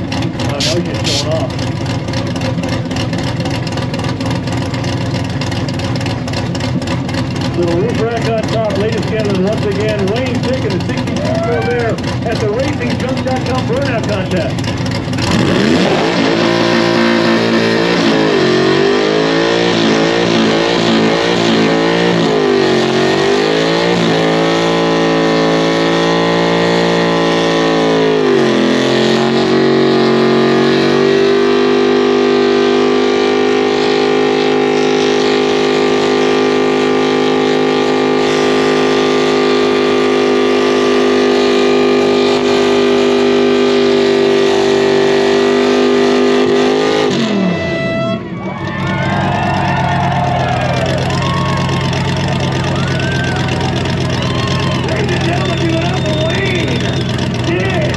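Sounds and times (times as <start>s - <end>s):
truck engine revving hard: 0.0s - 4.4s, 6.2s - 57.9s.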